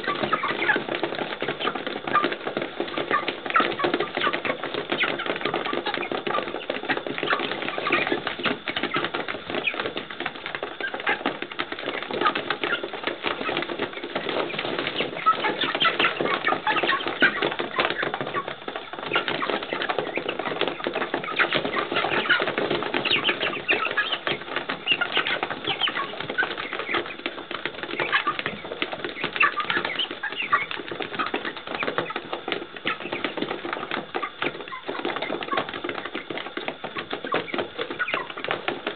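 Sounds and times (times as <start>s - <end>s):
beaks pecking at feed: 0.0s - 38.9s
chicks peeping: 0.0s - 38.9s
scuffling: 0.0s - 38.9s.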